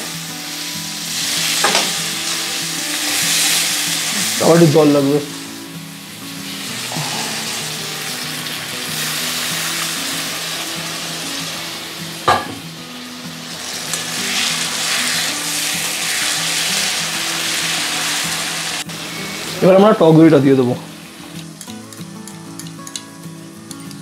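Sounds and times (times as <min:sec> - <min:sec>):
paste sizzling in oil: 0:00.0 - 0:23.6.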